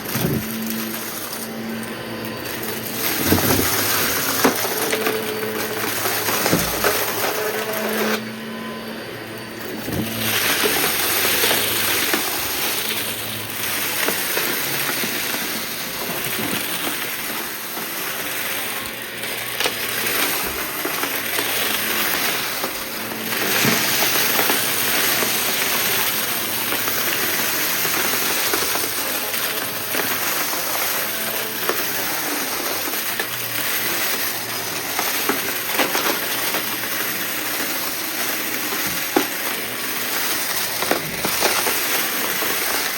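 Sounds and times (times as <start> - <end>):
debris crackling in vacuum: 0.0 - 42.9
vacuum cleaner whining: 0.0 - 42.9.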